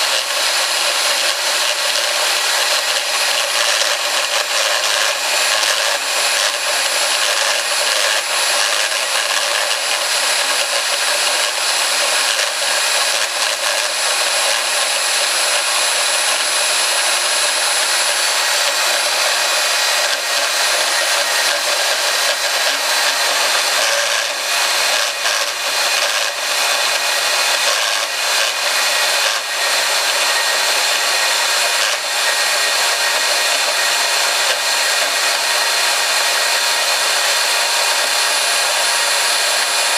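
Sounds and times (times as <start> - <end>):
band saw cutting pipe: 0.0 - 39.9.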